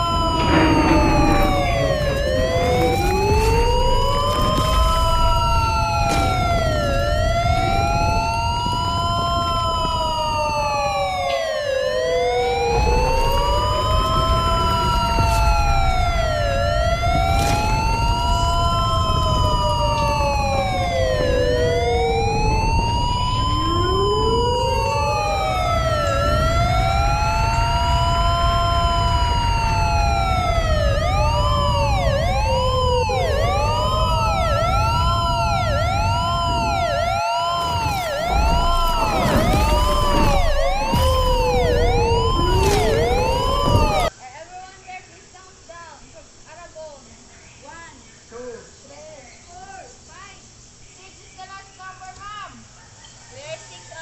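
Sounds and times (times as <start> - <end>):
emergency sirens wailing: 0.0 - 44.1.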